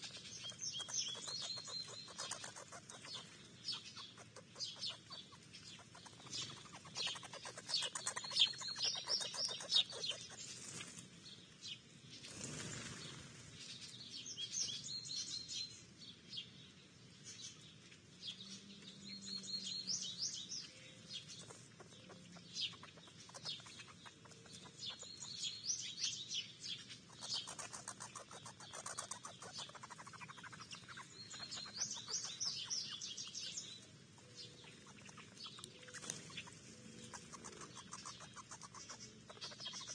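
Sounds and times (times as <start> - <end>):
birds chirping: 0.0 - 39.9
songbird singing: 0.0 - 39.9.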